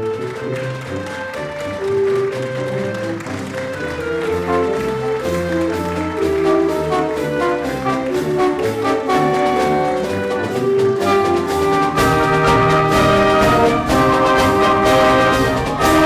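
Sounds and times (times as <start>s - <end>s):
brass chords: 0.0s - 16.0s
wind ensemble playing: 0.0s - 16.0s.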